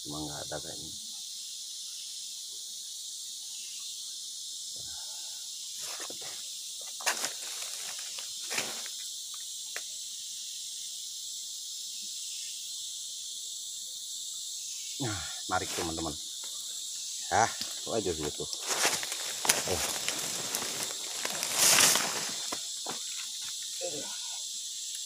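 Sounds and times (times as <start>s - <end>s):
insects chirping chorus: 0.0s - 25.0s.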